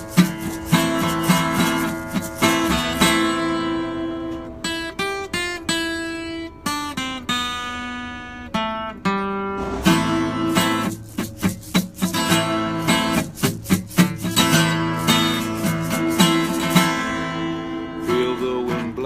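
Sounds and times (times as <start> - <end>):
acoustic guitar picked notes: 0.0 - 19.0
acoustic guitar strummed chords: 0.0 - 19.0.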